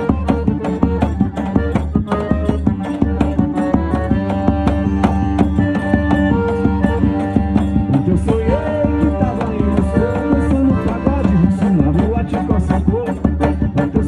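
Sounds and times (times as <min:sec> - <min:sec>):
band playing fast percussive music: 0:00.0 - 0:14.0.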